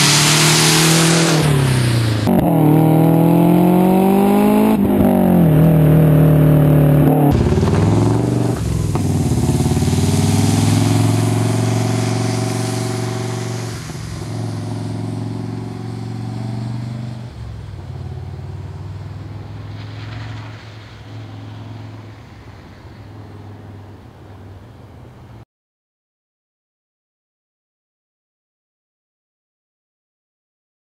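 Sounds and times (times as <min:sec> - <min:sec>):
car engine accelerating: 0:00.0 - 0:25.1.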